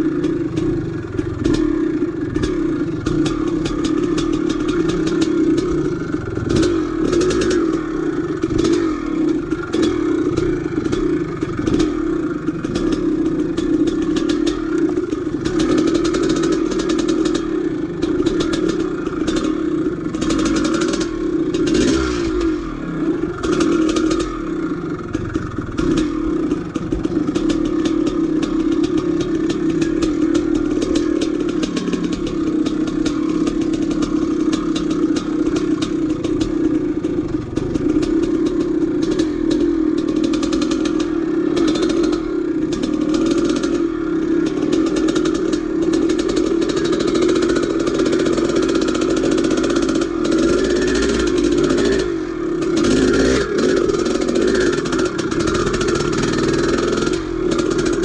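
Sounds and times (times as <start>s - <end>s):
dirt bike clattering: 0.0s - 58.0s
dirt bike engine running: 0.0s - 58.0s.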